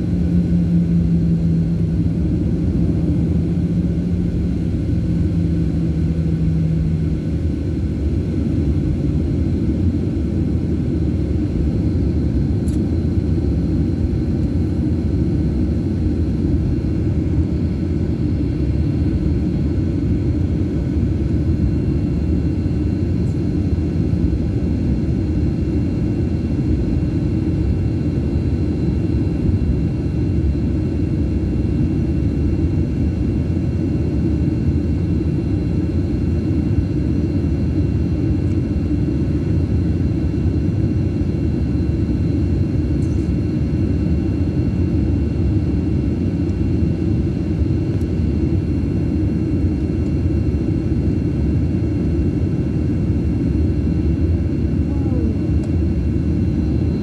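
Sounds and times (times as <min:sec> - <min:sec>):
jet engine rumble in cabin: 0:00.0 - 0:57.0
low hum: 0:00.0 - 0:57.0.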